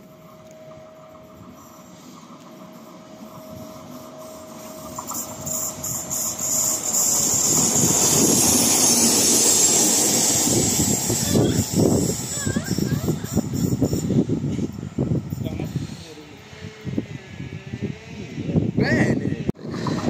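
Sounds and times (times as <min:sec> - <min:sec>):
train wheels running on rails: 0:00.0 - 0:18.0.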